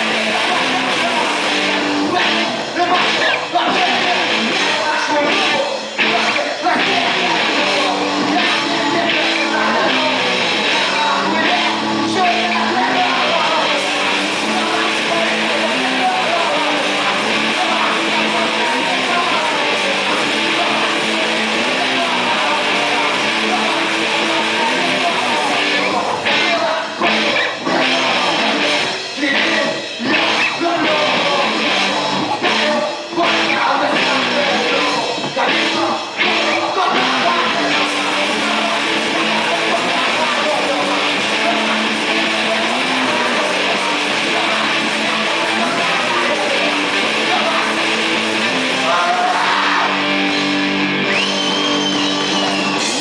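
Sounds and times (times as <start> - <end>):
electric guitar: 0.0 - 53.0
loud rock band playing: 0.0 - 53.0.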